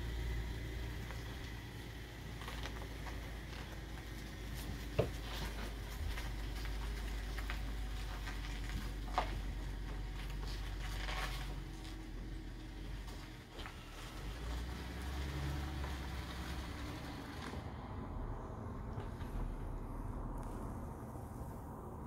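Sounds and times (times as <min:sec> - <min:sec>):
car engine low rumble: 0:00.0 - 0:22.0.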